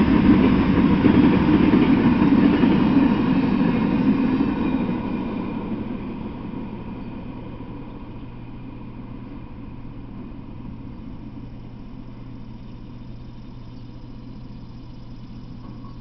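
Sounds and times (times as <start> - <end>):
freight train rumble: 0.0 - 16.0
steady low hum: 0.0 - 16.0.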